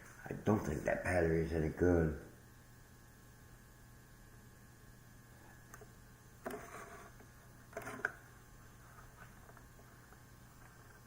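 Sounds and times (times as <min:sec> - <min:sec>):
low mains hum: 0:00.0 - 0:11.0.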